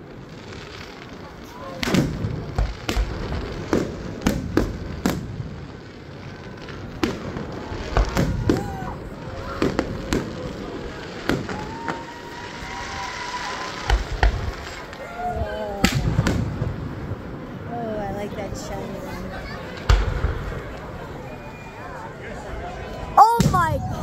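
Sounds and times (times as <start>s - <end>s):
fireworks bangs: 0.0s - 17.7s, 19.3s - 21.7s, 23.2s - 24.0s
fireworks crackle: 0.0s - 21.8s.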